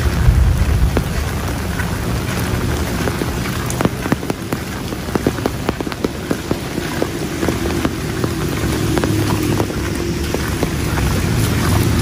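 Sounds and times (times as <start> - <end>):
low rumble: 0.0 - 12.0
rain drops tapping: 0.0 - 12.0.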